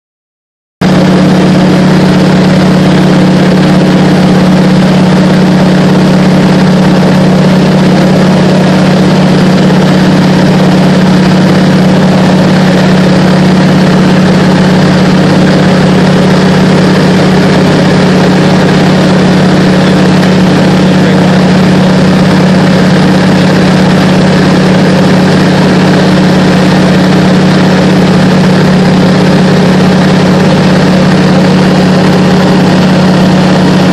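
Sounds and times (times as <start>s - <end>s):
plane engine and propeller droning: 0.8s - 33.9s
airflow noise: 1.0s - 33.9s.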